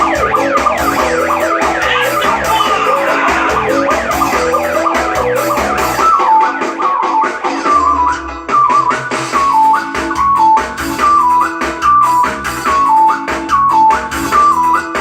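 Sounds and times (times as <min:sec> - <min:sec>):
drum and bass backing: 0:00.0 - 0:15.0
electronic keyboard tune: 0:00.0 - 0:15.0.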